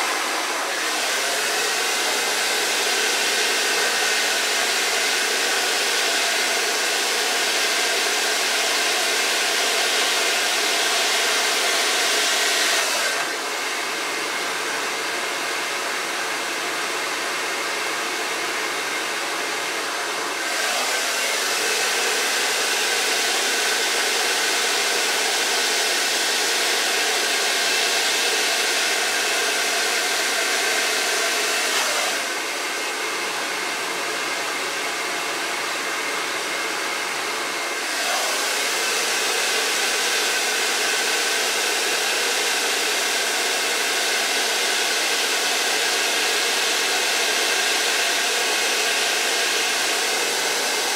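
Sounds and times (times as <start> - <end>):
hair dryer blowing: 0.0 - 50.9.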